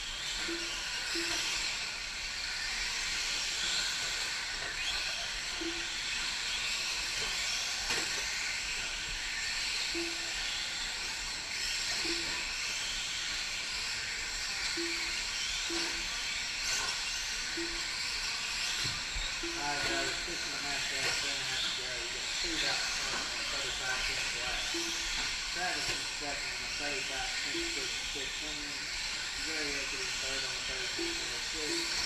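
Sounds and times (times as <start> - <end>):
rc truck motors whining: 0.0 - 32.0.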